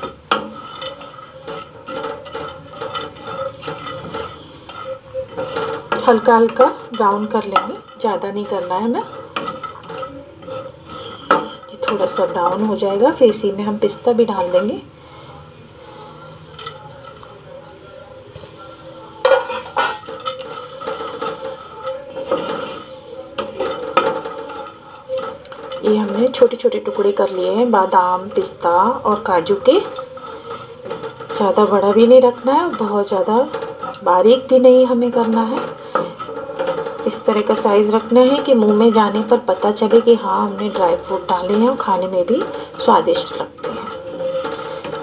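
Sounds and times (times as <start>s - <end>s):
nuts sizzling in oil: 0.0s - 17.5s, 18.5s - 45.0s
wooden spatula scraping a pan: 0.0s - 45.0s.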